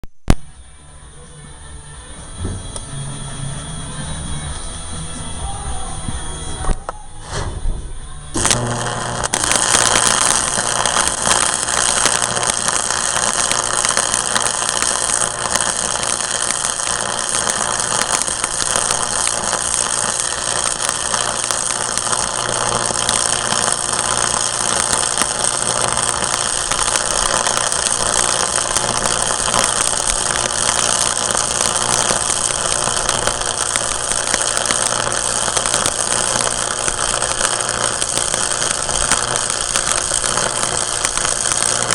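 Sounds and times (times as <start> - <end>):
welding arc crackling and sizzling: 8.3 - 41.9.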